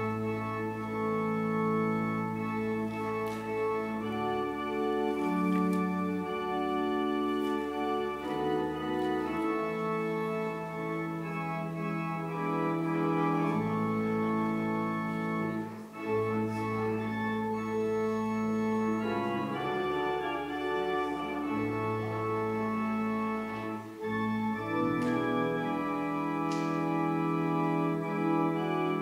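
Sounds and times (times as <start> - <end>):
deep organ pedal bass notes: 0.0 - 29.0
pipe organ chords: 0.0 - 29.0.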